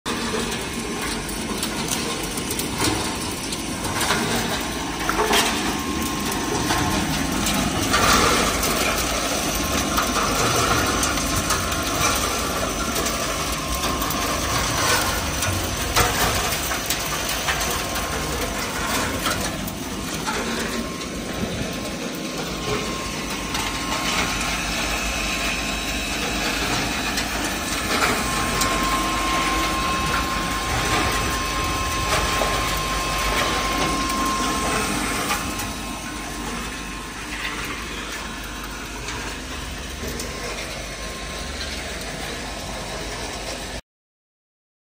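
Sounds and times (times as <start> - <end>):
steady machine noise: 0.1 - 43.8.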